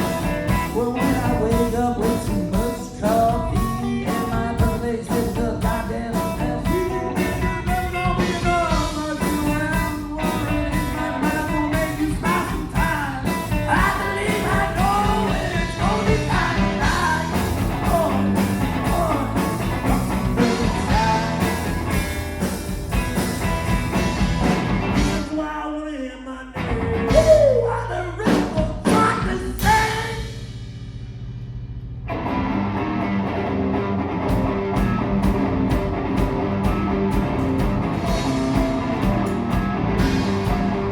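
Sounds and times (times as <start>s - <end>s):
electric guitar lead lines: 0.0s - 25.3s, 31.8s - 40.9s
rock band jamming: 0.0s - 25.3s, 26.6s - 40.9s.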